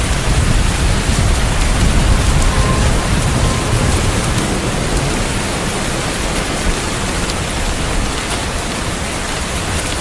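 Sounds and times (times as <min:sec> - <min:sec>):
low rumble of thunder: 0:00.0 - 0:09.1
heavy rain pouring: 0:00.0 - 0:10.0.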